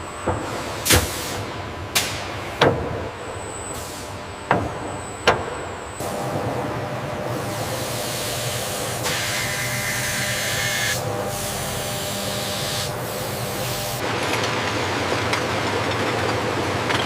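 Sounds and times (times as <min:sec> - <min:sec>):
factory machine hum: 0:00.0 - 0:17.0.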